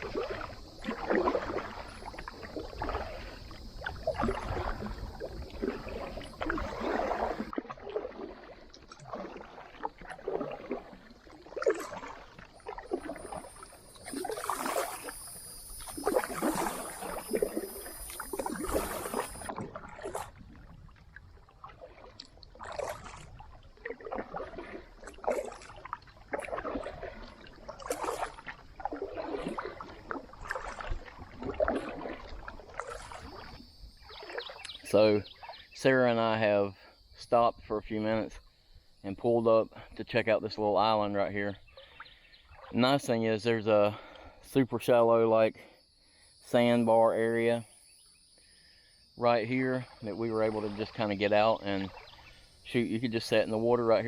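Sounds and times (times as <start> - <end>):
paddle splashing in water: 0.0 - 37.0, 39.8 - 44.6, 48.5 - 54.0.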